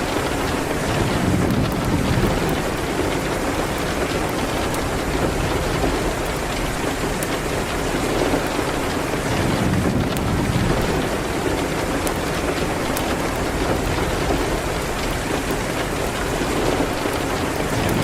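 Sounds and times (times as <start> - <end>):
raindrop ticks: 0.0 - 18.0
steady rain hiss: 0.0 - 18.0.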